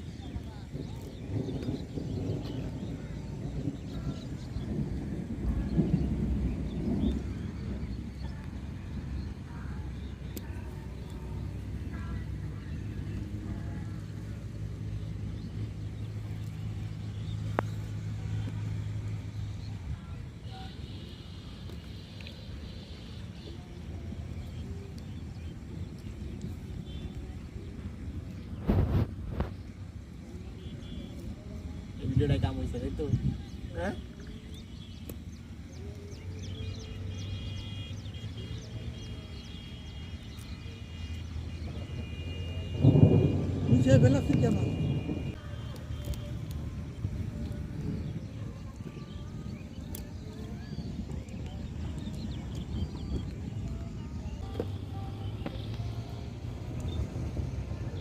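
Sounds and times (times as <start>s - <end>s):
engine humming: 0.0s - 58.0s
small birds chirping: 0.0s - 58.0s
steady low rumble: 0.0s - 58.0s.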